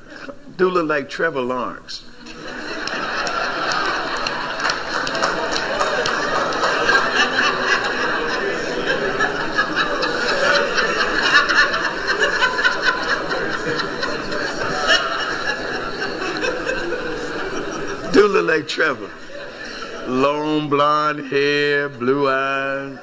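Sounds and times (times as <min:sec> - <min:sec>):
congregation laughing: 0:02.1 - 0:23.0.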